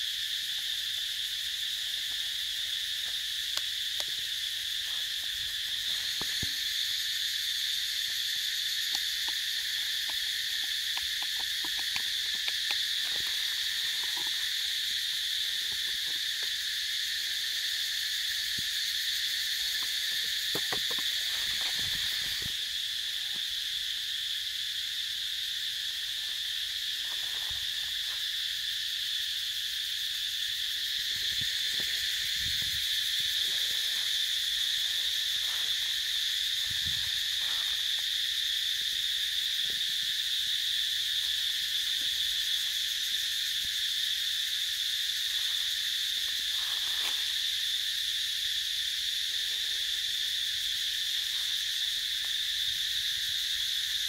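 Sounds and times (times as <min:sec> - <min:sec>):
forest insects droning: 0:00.0 - 0:54.0.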